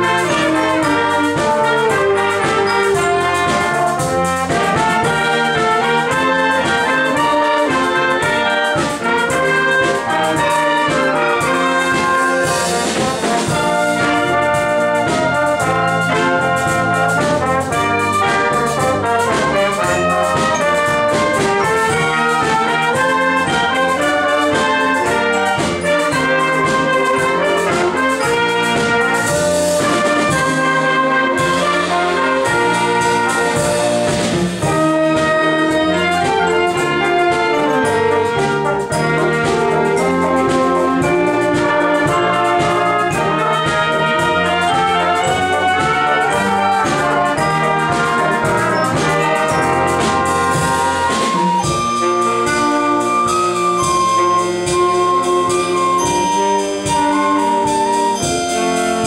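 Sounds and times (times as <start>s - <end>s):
wind band playing pop song: 0.0s - 59.0s.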